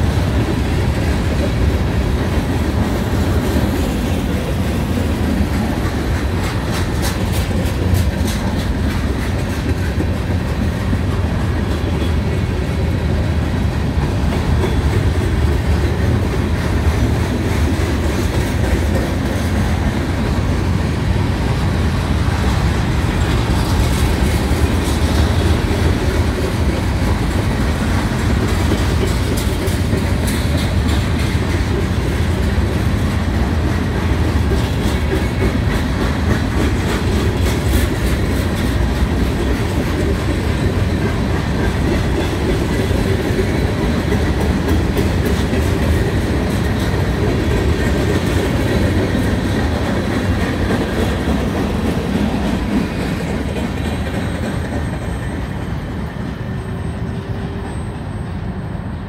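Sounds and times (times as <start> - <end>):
freight train rumbling: 0.0 - 59.0
wheels clicking and clacking: 0.1 - 20.6, 22.4 - 55.6.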